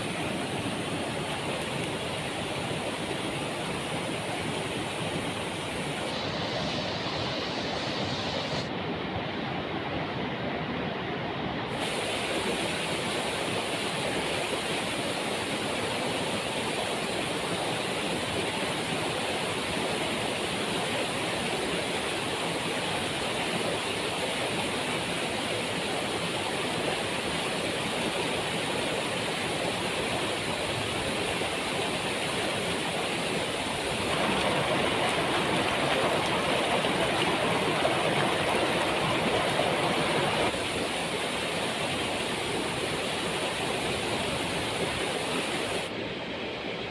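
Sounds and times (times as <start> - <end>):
waterfall rushing: 0.0 - 8.8, 11.7 - 46.0.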